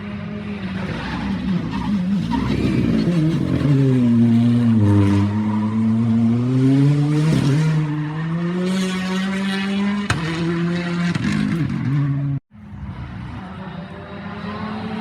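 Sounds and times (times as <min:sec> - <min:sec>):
rally car engine revving: 0:00.0 - 0:12.4, 0:13.0 - 0:15.0.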